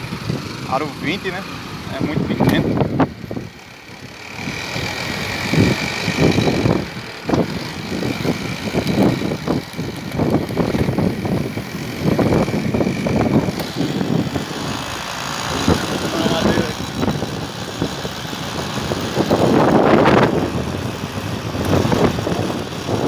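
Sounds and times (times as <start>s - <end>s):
electric motor whine: 0.0s - 23.0s
low rumble of riding noise: 0.0s - 23.0s.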